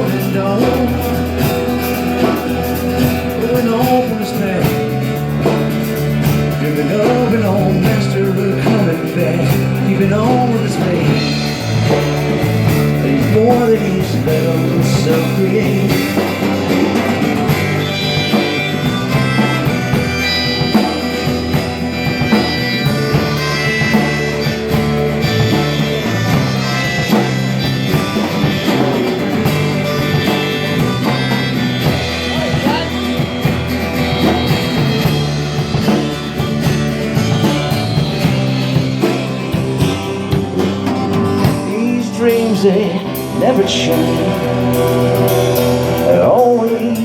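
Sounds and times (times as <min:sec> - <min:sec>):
instrumental blues-rock band: 0:00.0 - 0:47.0
sustained lead guitar line: 0:00.0 - 0:47.0.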